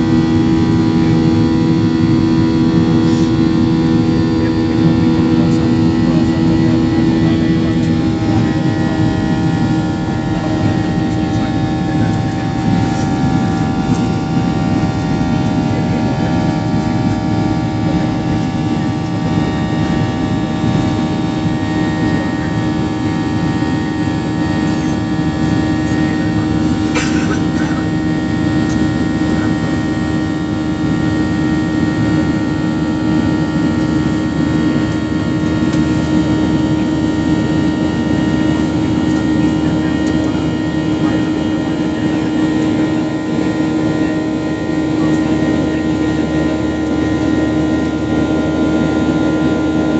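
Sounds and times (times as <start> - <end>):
airplane engine drone: 0.0 - 49.9.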